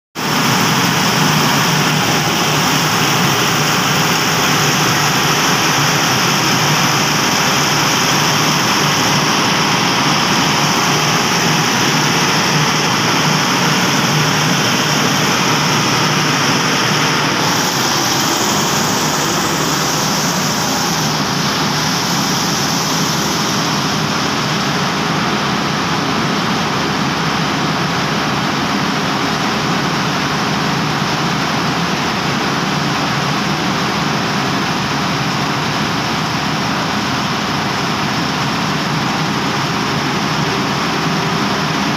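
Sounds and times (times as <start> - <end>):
diesel generator running: 0.2 - 41.9.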